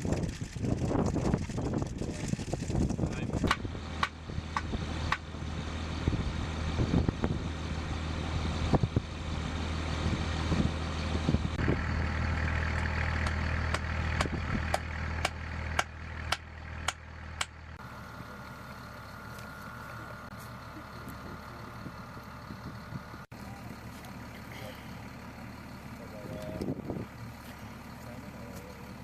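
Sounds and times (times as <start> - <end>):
engine idling with low hum: 0.0 - 29.0.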